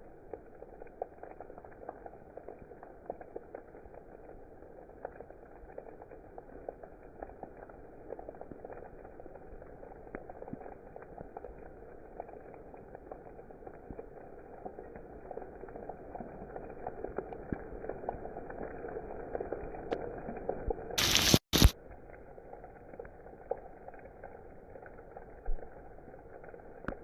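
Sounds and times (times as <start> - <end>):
steady rain pattering: 0.0 - 27.0.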